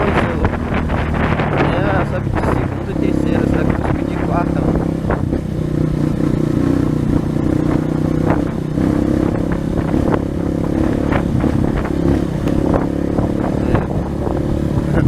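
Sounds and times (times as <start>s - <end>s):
knocks and rattles: 0.0s - 15.0s
motorcycle engine running: 0.0s - 15.0s.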